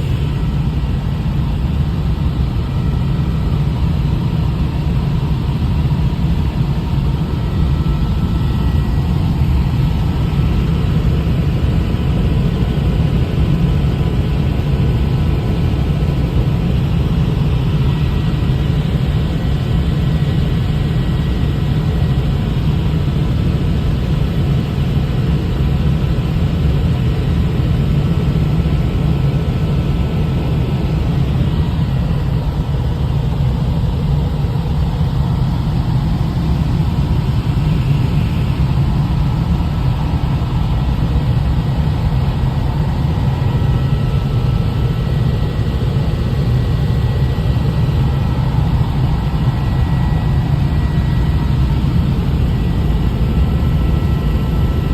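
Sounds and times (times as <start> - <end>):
helicopter rotor drone: 0.0 - 54.9.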